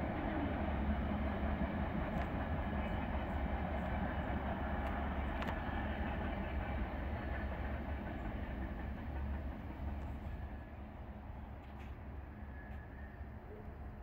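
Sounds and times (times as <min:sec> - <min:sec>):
train rolling on rails: 0:00.0 - 0:14.0.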